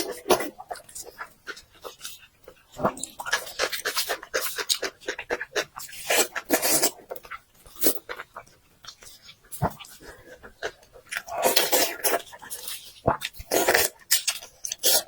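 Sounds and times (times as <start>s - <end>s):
chewing and lip-smacking: 0.3s - 15.0s.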